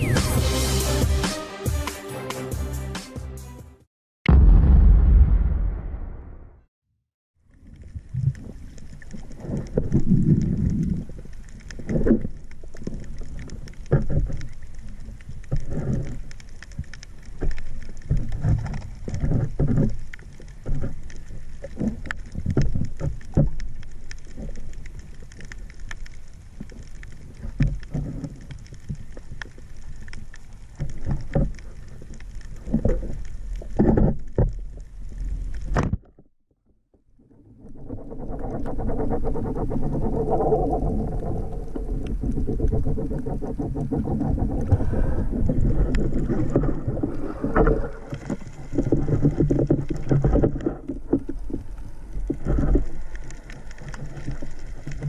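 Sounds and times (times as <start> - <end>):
water sloshing and splashing: 7.5 - 36.3, 37.6 - 55.0.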